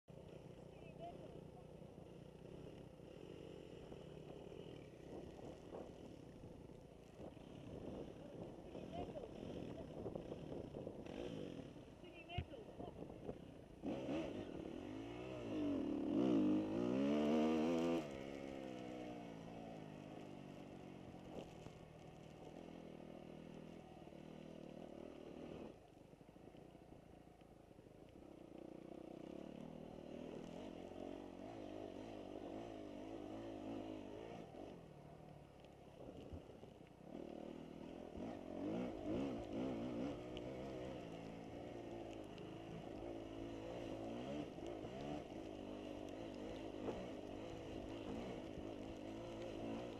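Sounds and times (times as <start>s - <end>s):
dirt bike engines revving: 0.1s - 49.9s.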